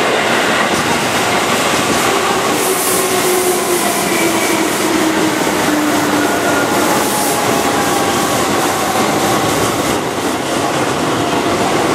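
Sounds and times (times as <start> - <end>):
train wheels rumbling on rail: 0.0 - 11.9.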